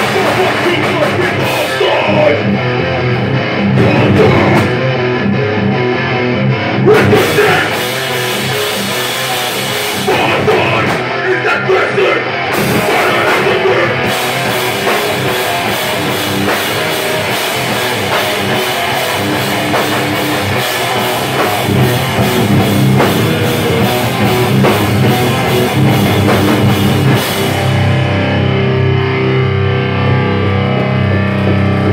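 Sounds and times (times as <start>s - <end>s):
punk band playing live: 0.0s - 31.9s.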